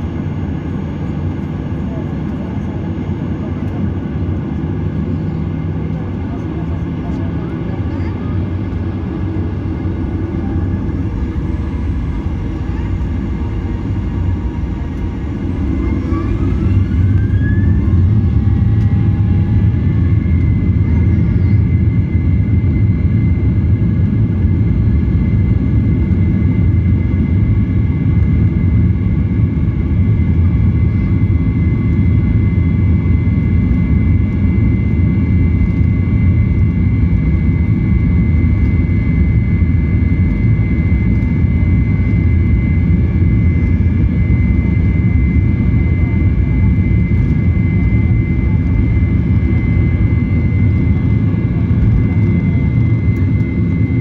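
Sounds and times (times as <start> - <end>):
airliner engine rumble: 0.0 - 54.0
engine whine: 0.0 - 54.0.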